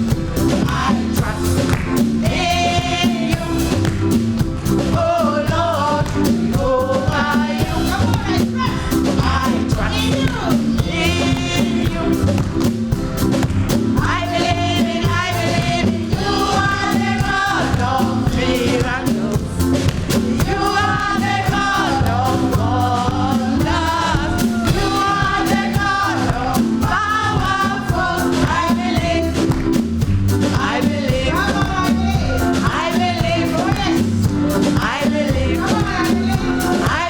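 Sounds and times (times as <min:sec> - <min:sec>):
gospel group singing: 0:00.0 - 0:37.0
loud band with steady beat: 0:00.0 - 0:37.0.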